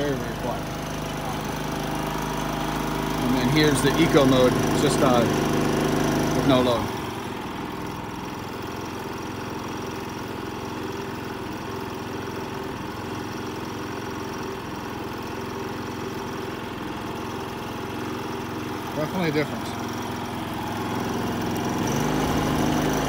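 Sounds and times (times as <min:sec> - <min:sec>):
generator engine idling: 0:00.0 - 0:23.0.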